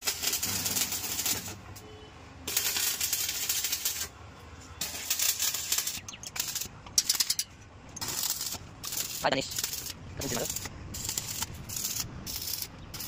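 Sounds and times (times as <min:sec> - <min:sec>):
welding arc crackling: 0:00.0 - 0:01.6, 0:02.5 - 0:04.2, 0:04.8 - 0:07.4, 0:08.0 - 0:13.0.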